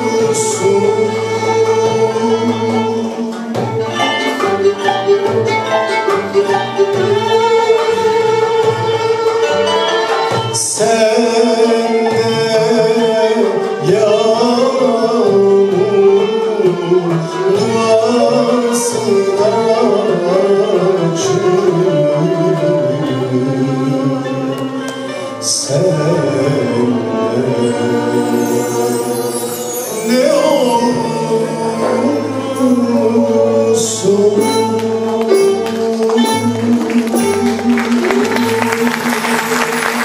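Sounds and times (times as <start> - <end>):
man singing: 0.0 - 5.7, 10.4 - 40.0
violin ensemble: 0.0 - 40.0.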